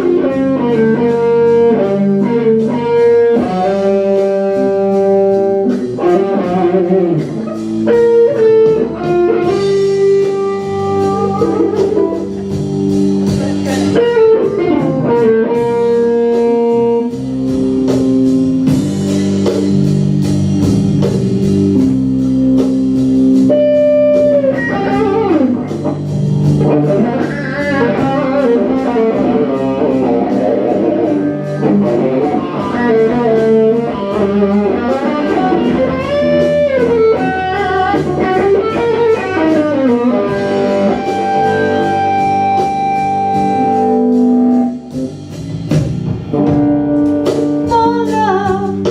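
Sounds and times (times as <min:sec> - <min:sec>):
bass: 0:00.0 - 0:48.9
electric guitar lead: 0:00.0 - 0:48.9
steady drum beat: 0:00.0 - 0:48.9.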